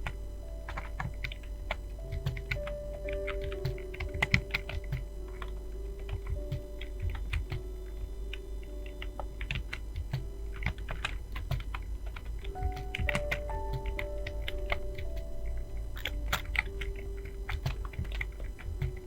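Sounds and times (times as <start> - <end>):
keyboard typing: 0.0 - 19.0
soft background music: 0.0 - 19.0.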